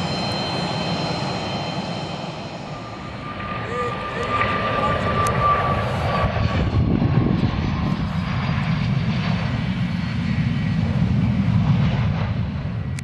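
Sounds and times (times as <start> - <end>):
jet engines running with whine: 0.0 - 13.0.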